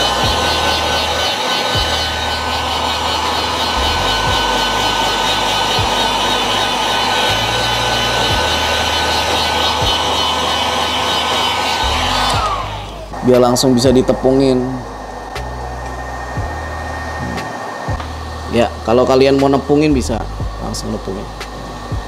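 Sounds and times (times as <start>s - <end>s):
faint motor whine: 0.0s - 22.0s
heat gun hot-air hiss: 0.0s - 22.0s.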